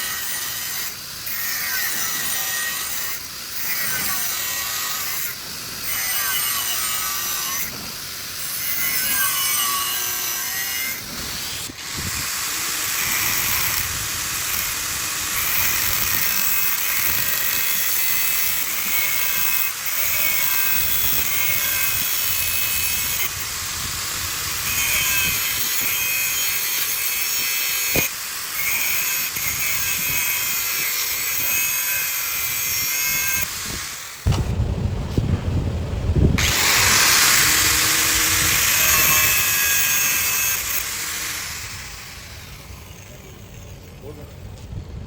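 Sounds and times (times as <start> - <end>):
power grinder grinding steel: 0.0 - 34.3, 36.4 - 44.4.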